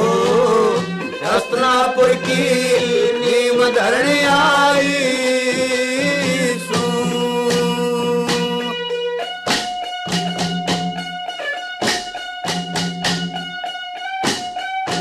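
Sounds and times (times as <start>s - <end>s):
plucked notes: 0.0s - 15.0s.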